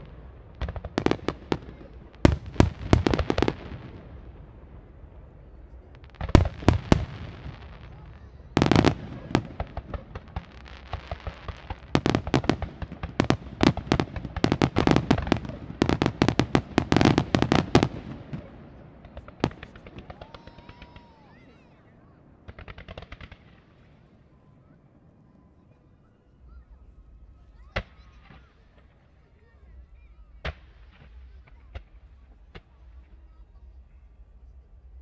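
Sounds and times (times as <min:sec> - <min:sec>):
firework crackling: 0:00.0 - 0:24.4, 0:26.5 - 0:35.0.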